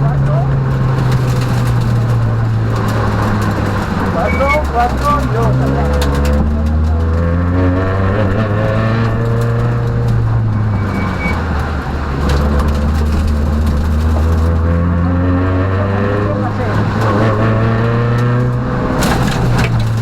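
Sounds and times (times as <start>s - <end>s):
rally car engine pulling hard: 0.0s - 20.0s.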